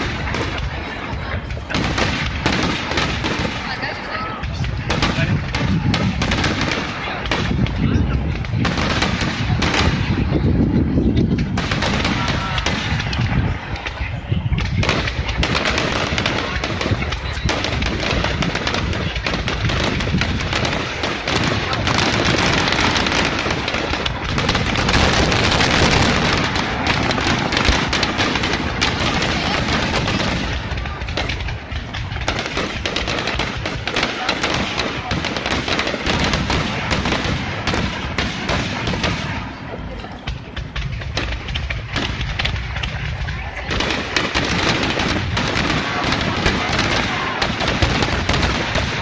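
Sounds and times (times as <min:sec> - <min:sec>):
fireworks bursting and crackling: 0:00.0 - 0:49.0.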